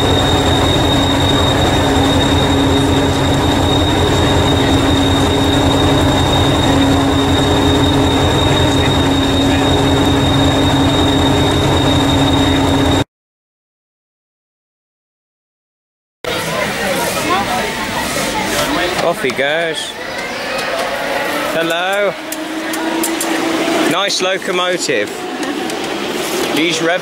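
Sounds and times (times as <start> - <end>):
steady high whine: 0.0 - 13.0, 16.3 - 27.0
train diesel engine throbbing: 0.0 - 13.0, 16.3 - 27.0.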